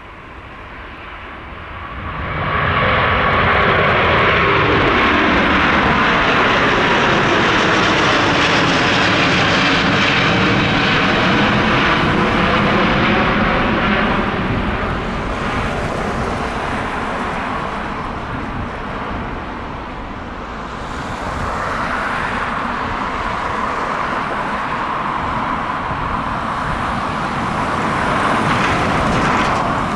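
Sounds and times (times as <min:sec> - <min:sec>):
distant jet engine rumble: 0:00.0 - 0:29.9.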